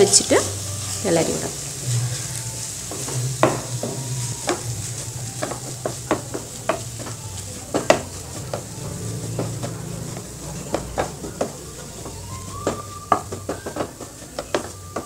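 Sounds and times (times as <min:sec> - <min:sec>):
light sizzle: 0:00.0 - 0:15.0
spatula scraping a frying pan: 0:00.0 - 0:15.0.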